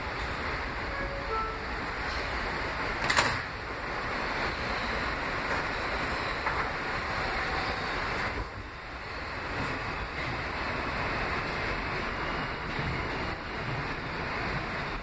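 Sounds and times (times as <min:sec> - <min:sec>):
subway train running: 0:00.0 - 0:15.0.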